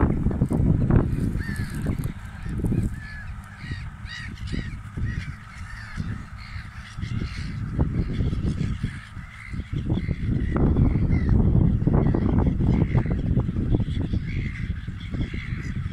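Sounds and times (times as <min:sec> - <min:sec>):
gulls calling: 0:00.0 - 0:15.9
wind rumbling on microphone: 0:00.0 - 0:15.9.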